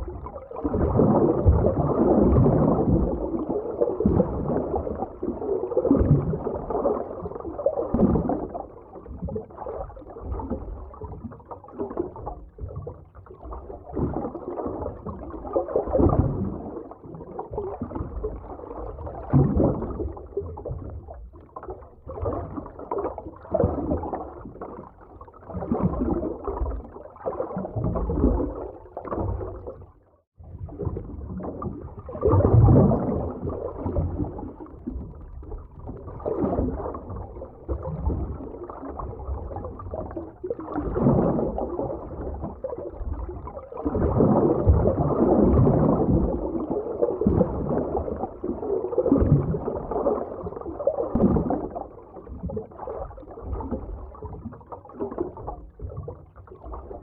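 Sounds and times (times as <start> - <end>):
underwater gurgling and bubbling: 0.0 - 57.0.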